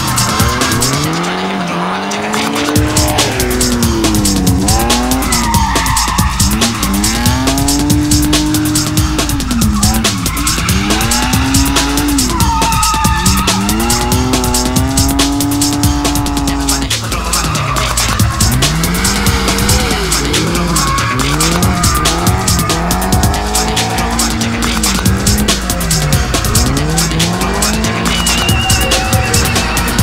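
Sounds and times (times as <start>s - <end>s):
car engine revving hard: 0.0s - 30.0s
tyres squealing: 0.0s - 30.0s.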